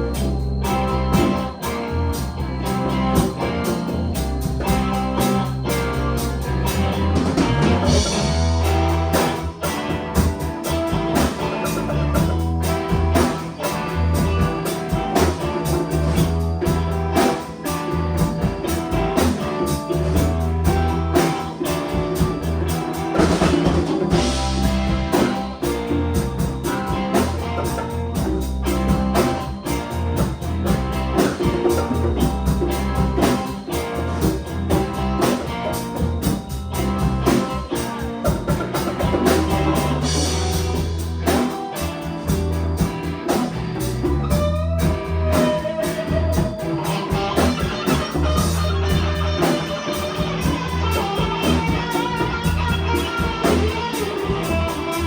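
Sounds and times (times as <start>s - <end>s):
bass line: 0.0s - 55.0s
drum kit beat: 0.0s - 55.0s
electric guitar: 0.0s - 55.0s.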